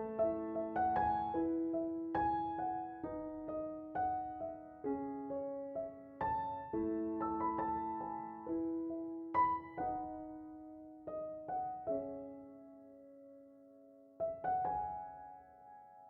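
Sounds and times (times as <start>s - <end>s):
gentle solo piano melody: 0.0s - 16.0s.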